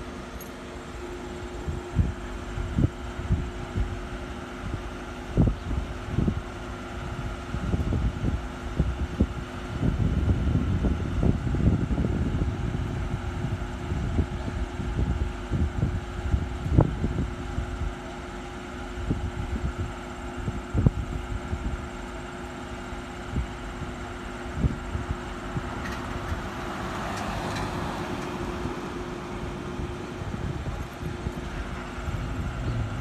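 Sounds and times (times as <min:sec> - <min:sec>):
steady low hum: 0:00.0 - 0:26.7, 0:28.2 - 0:33.0
wind buffeting microphone: 0:01.3 - 0:33.0.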